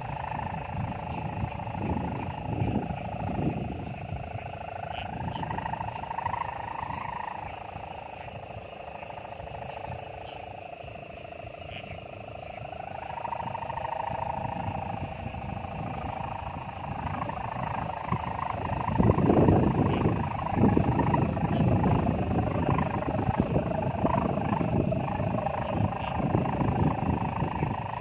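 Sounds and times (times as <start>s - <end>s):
kite hummer buzzing drone: 0.0s - 28.0s.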